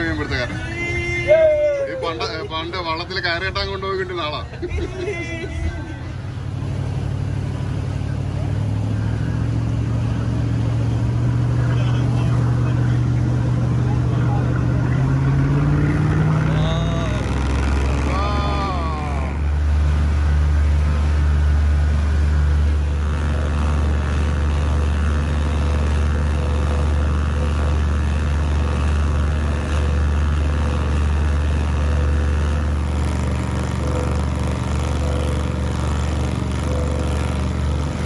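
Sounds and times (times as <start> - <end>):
boat engine droning: 0.0 - 38.0.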